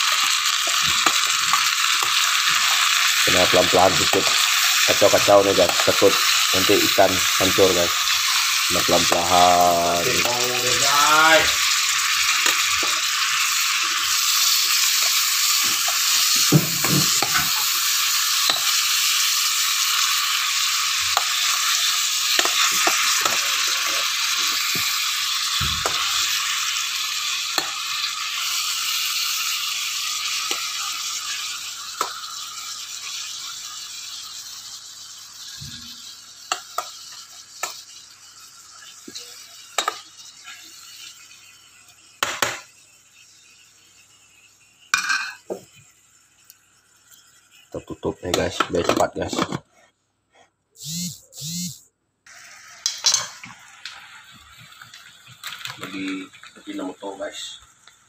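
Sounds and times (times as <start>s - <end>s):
fish sizzling in a pot: 0.0s - 58.0s.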